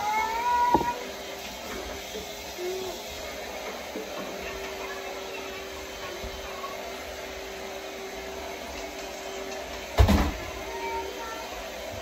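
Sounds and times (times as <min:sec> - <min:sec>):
vacuum cleaner humming: 0:00.0 - 0:12.0.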